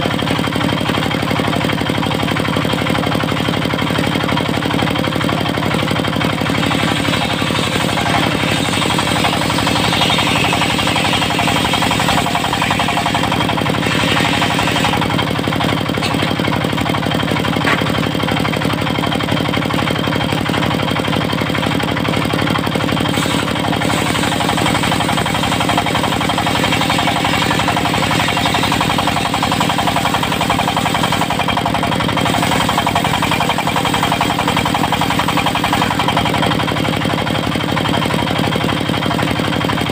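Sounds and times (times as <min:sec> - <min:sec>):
diesel engine running: 0:00.0 - 0:39.9
circular saw cutting: 0:05.2 - 0:37.4.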